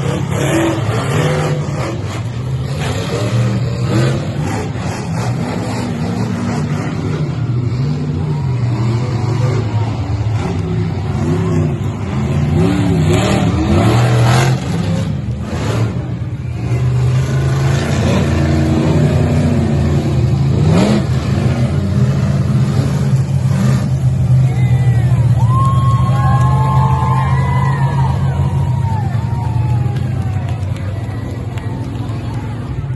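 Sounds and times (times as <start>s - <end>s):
monster truck engine revving: 0.0s - 32.9s.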